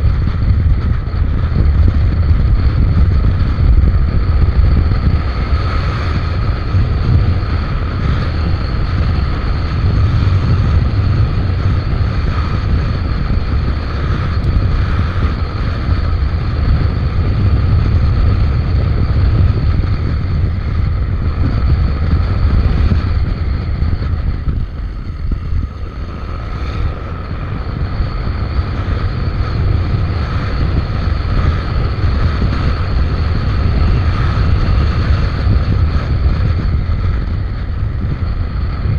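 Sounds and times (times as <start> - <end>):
faint steady whine: 0.0 - 38.9
wind rumbling on microphone: 0.0 - 38.9
scooter engine running: 0.6 - 38.0.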